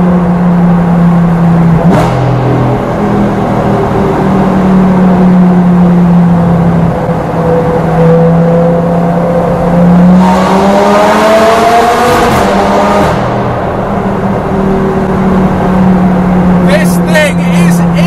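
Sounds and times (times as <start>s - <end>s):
car engine revving: 1.2s - 18.0s.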